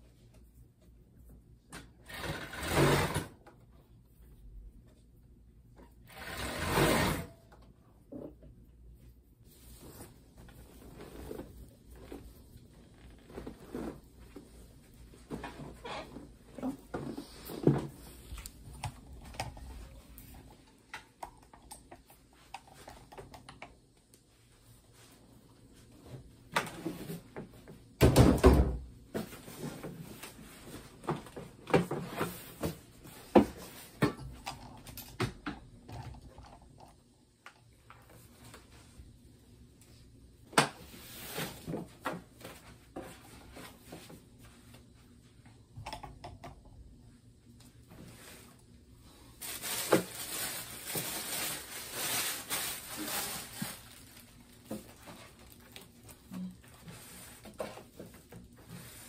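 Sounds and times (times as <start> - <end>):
objects being handled and moved: 0.0 - 39.2, 39.8 - 46.6, 47.2 - 59.0.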